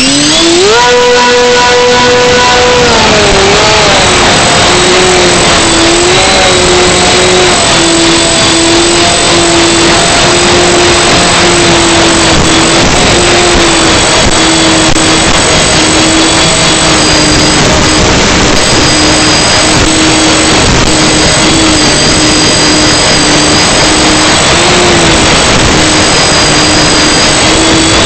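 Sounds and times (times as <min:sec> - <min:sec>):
drone motors whining: 0:00.0 - 0:28.0
wind noise: 0:00.0 - 0:28.0.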